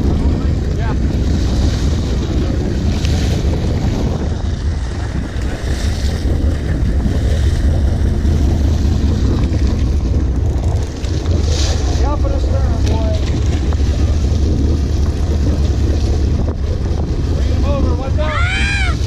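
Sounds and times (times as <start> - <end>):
boat engine rumble: 0.0 - 19.0
water washing along hull: 0.0 - 19.0
wind buffeting microphone: 0.0 - 19.0.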